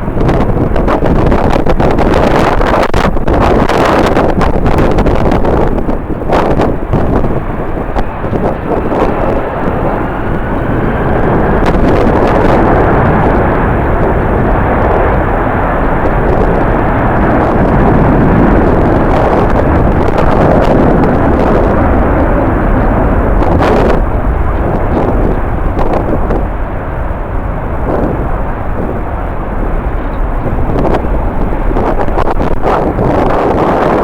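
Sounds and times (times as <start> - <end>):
jet engines roaring: 0.0 - 34.0
wind rumbling on microphone: 0.0 - 34.0.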